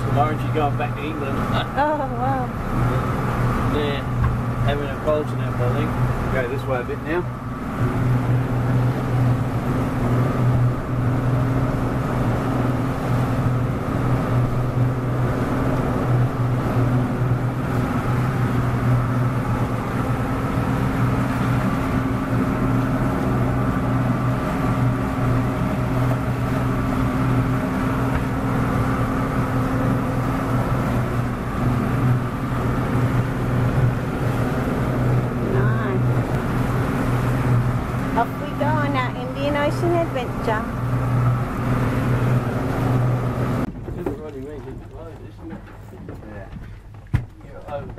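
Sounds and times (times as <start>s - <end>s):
outboard motor running: 0.0s - 47.9s.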